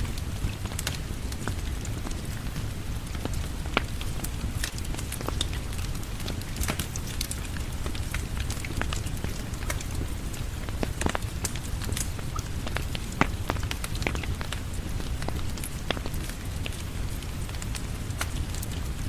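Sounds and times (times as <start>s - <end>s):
steady rain falling: 0.0s - 19.0s
wood fire crackling: 0.0s - 19.0s.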